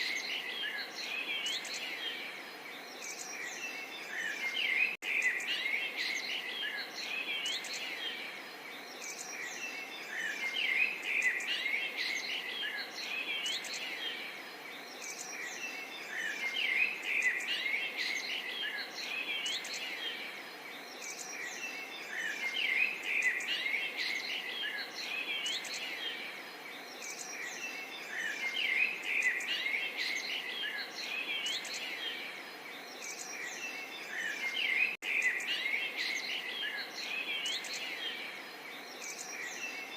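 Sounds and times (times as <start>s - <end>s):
faint steady hiss: 0.0s - 39.9s
small birds chirping and whistling: 0.0s - 39.9s.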